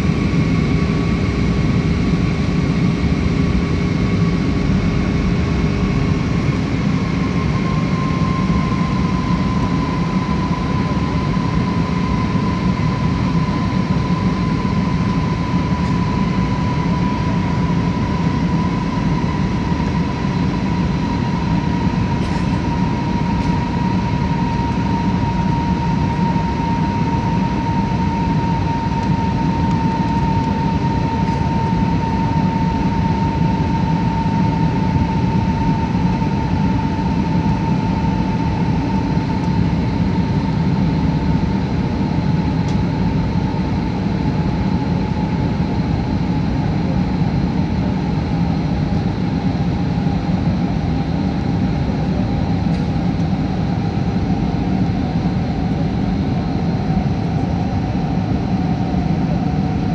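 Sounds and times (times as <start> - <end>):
airliner cabin engine and airflow noise: 0.0 - 59.9
high engine whine: 0.0 - 59.9.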